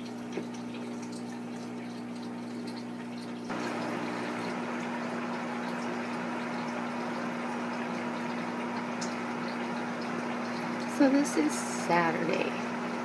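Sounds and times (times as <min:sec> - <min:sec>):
aquarium sponge filter bubbling: 0:00.0 - 0:13.0
steady hum: 0:00.1 - 0:13.0.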